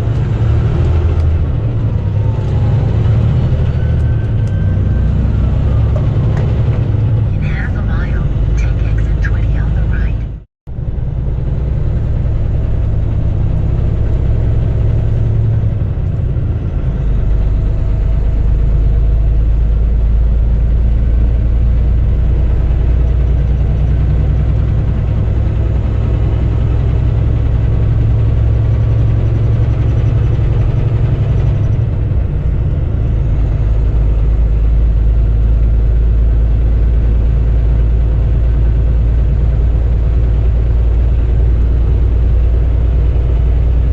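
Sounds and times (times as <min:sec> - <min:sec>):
truck engine and road rumble: 0:00.0 - 0:43.9.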